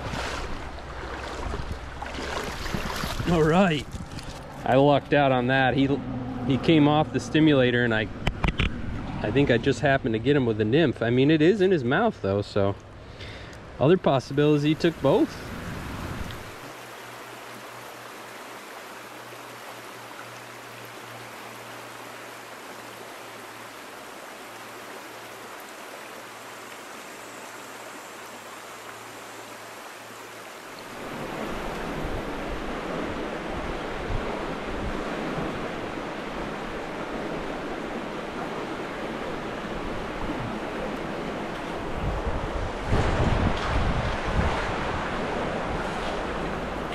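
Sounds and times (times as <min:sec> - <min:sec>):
stream water rushing: 0:00.0 - 0:46.9.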